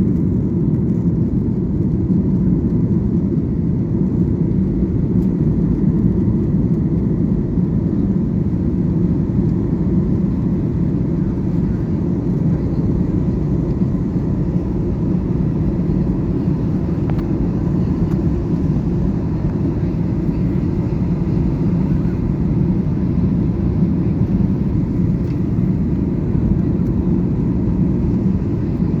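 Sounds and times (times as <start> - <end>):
jet engines low rumble: 0.0 - 29.0.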